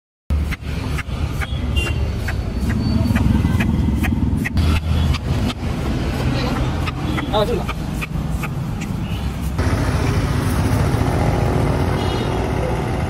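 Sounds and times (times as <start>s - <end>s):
low engine rumble: 0.3s - 13.0s.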